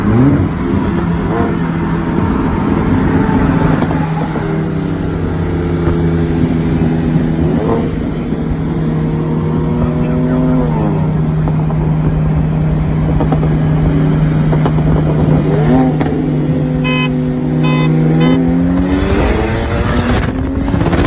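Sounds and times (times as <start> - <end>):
turbocharged car engine revving: 0.0 - 21.0.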